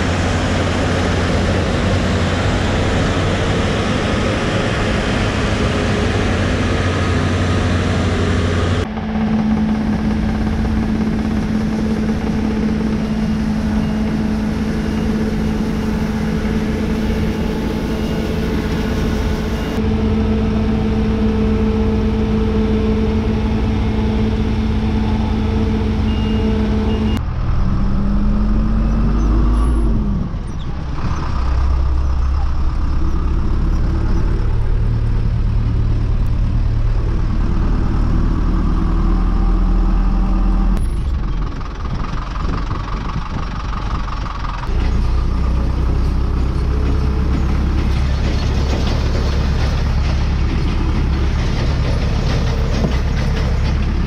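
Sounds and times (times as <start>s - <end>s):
farm machinery engines running: 0.0s - 54.0s.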